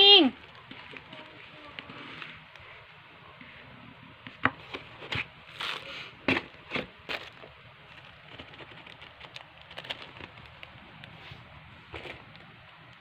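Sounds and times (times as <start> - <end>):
paper bag rustling and crinkling: 0.4 - 2.8, 4.5 - 12.6.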